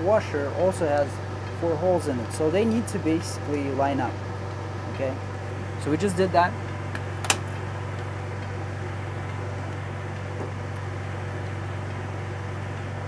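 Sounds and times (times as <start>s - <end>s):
ventilation fan humming: 0.0s - 13.0s.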